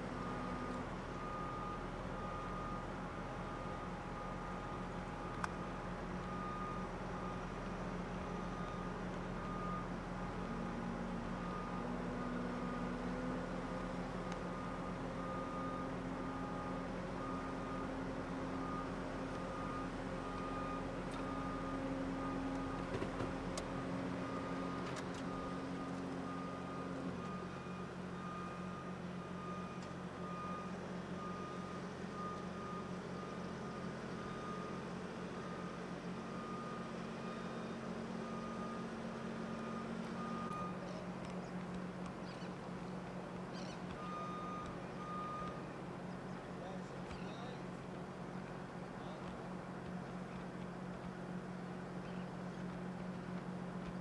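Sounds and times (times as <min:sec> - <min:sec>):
reversing alarm beeping: 0:00.0 - 0:41.2, 0:42.1 - 0:48.0
engine humming: 0:00.0 - 0:54.0.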